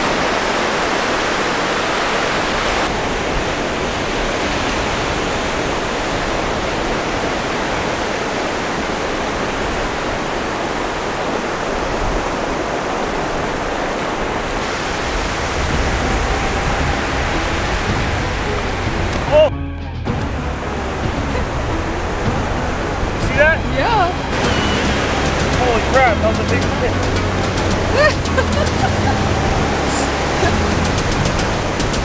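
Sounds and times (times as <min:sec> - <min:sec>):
ocean surf on sandy beach: 0:00.0 - 0:19.5, 0:20.3 - 0:32.0.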